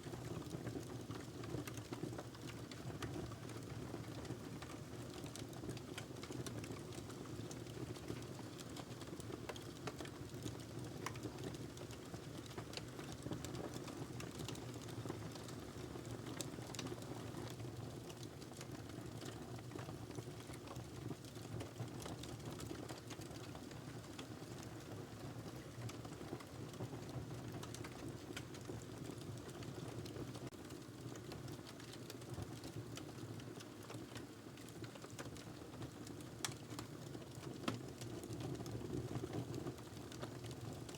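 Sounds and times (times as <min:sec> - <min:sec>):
fire popping and snapping: 0:00.3 - 0:40.9.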